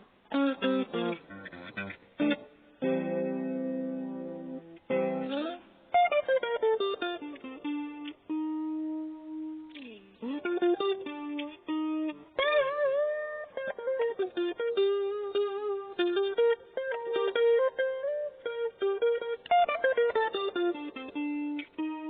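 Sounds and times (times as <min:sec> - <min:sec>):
guitar picking single-note melody: 0:00.0 - 0:22.0.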